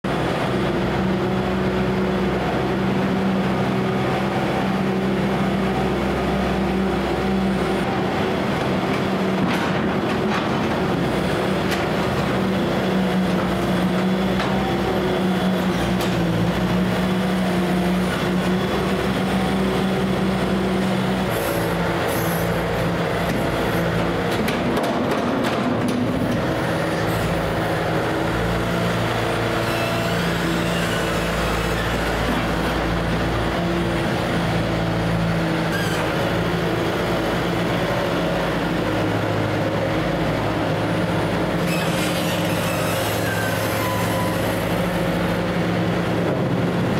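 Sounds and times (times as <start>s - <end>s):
diesel engine running under load: 0.0s - 46.9s.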